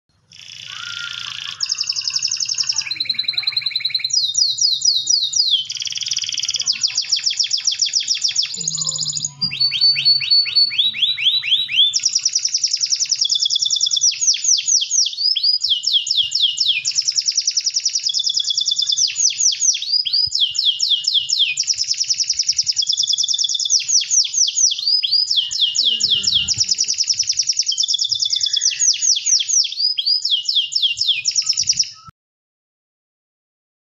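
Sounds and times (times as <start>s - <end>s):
canary singing: 0.2s - 32.1s.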